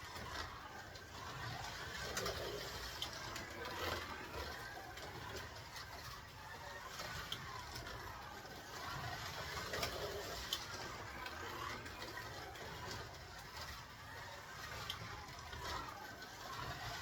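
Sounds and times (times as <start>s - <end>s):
car rattling along plastic track: 0.0s - 17.0s
slot car motor whining: 0.0s - 17.0s.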